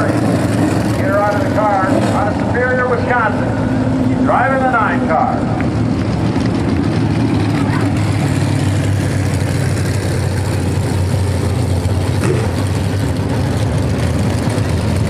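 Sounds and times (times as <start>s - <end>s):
race car engines idling: 0.0s - 15.0s.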